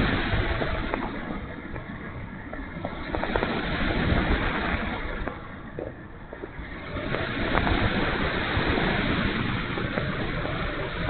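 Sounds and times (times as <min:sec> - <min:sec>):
wind rushing on camera: 0:00.0 - 0:11.0.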